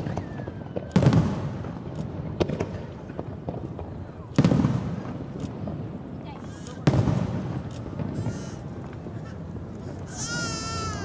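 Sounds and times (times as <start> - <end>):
fireworks booming: 0.0 - 11.0
fireworks crackling: 0.0 - 11.0
fireworks cracks: 0.0 - 11.0.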